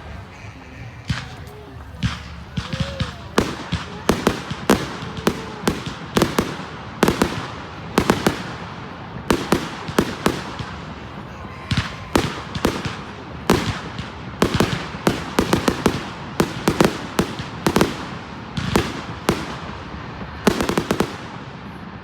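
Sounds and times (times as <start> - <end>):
fireworks bangs: 0.0 - 22.0
fireworks crackling pops: 0.0 - 22.0.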